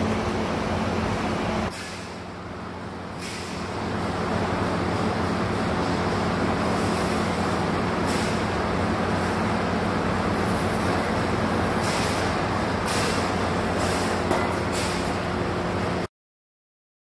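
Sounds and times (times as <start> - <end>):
rollformer motor hum: 0.0 - 16.1.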